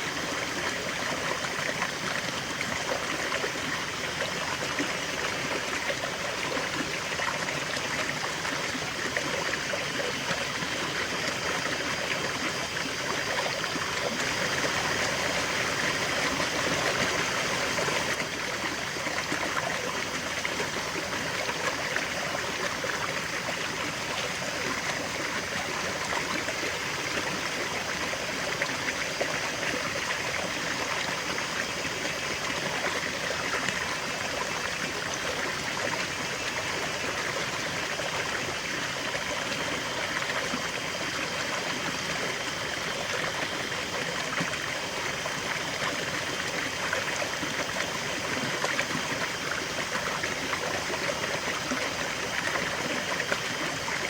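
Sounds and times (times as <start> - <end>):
river water babbling over stones: 0.0 - 54.0.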